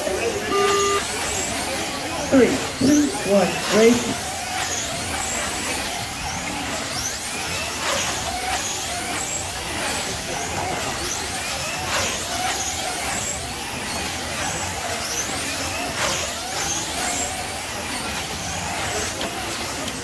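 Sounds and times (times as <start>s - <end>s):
slot car electric motors whining: 0.0s - 20.0s.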